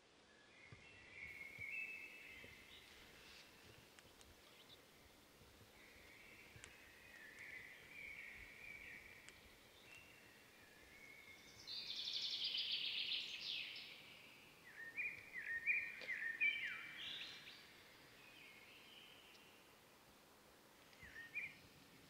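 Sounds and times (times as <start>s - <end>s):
songbird trill: 0.0s - 19.8s, 20.8s - 21.8s
faint background hiss: 0.0s - 22.0s
bird chirping: 0.3s - 19.7s, 20.9s - 21.8s.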